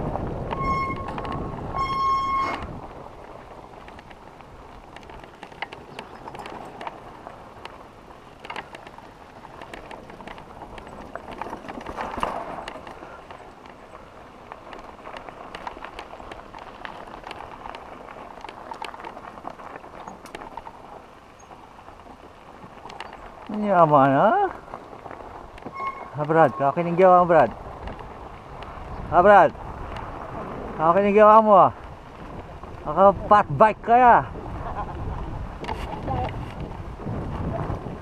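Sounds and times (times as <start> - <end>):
bike clicks and rattles: 0.0 - 38.0
bike tyres crunching on gravel: 0.0 - 38.0.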